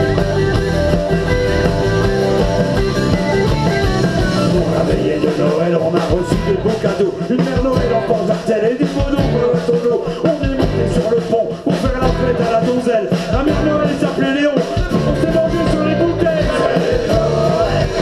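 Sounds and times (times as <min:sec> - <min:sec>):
electric guitar: 0:00.0 - 0:18.0
live rock band playing: 0:00.0 - 0:18.0.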